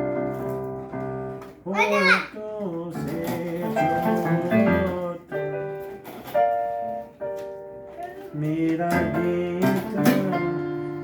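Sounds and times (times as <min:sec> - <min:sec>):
piano keyboard chords: 0:00.0 - 0:11.0.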